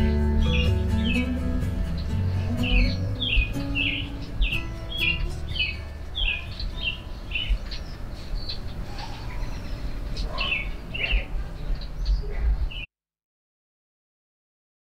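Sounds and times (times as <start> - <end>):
low background rumble: 0.0 - 12.7
songbirds chirping: 0.0 - 12.9.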